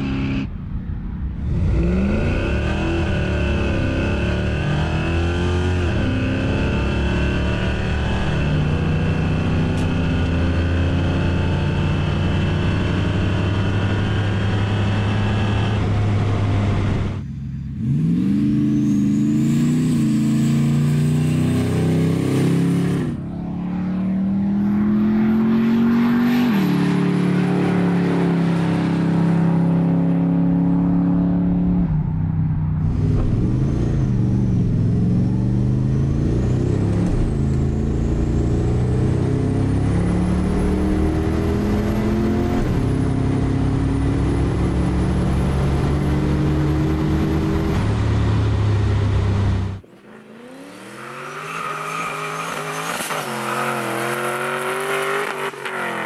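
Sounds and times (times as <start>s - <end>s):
car engines accelerating at full throttle: 0.0s - 56.0s.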